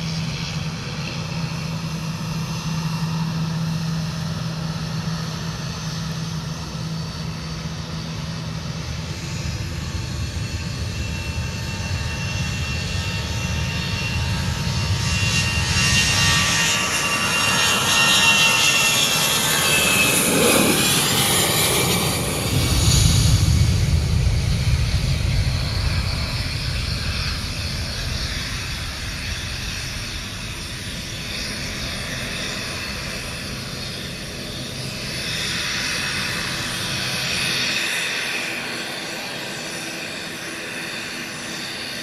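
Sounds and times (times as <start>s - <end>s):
jet engine whine: 0.0s - 42.0s
jet engines spooling up: 0.0s - 42.0s.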